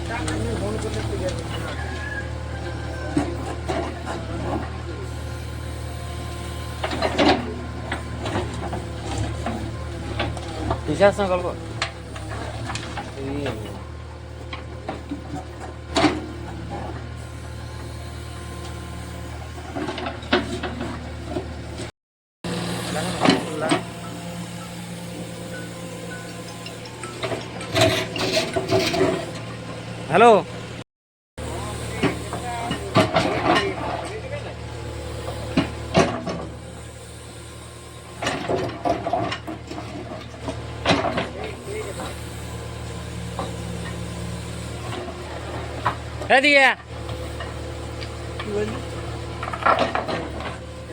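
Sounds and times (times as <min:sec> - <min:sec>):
diesel engine running at low revs: 0:00.0 - 0:30.8, 0:31.4 - 0:50.9.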